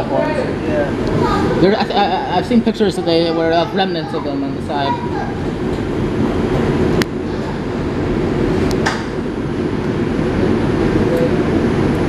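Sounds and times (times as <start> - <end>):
subway car rumbling on track: 0.0 - 12.0.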